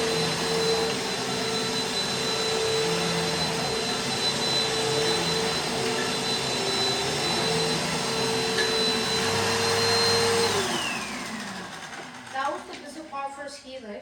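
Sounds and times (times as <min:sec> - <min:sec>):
motor winding down: 0:00.0 - 0:13.3
vacuum cleaner whining: 0:00.0 - 0:13.8.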